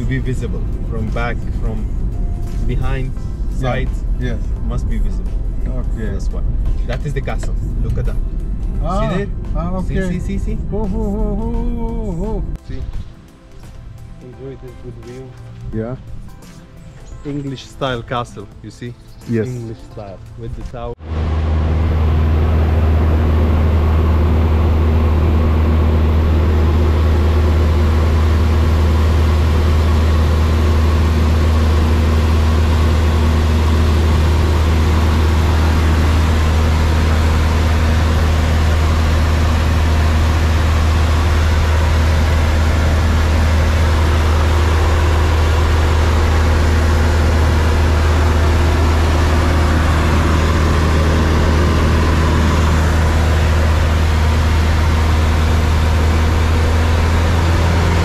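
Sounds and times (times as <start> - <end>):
engine drone with low hum: 0.0 - 58.0.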